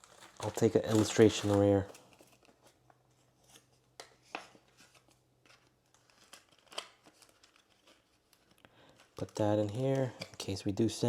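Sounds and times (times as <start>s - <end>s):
card rustling and ticking: 0.0s - 10.6s.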